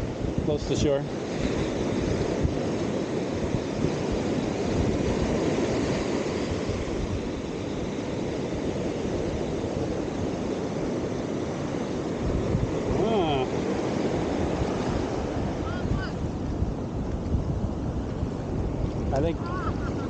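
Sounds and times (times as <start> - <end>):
ocean surf washing onto beach: 0.0 - 20.0
wind rumbling on microphone: 0.0 - 20.0.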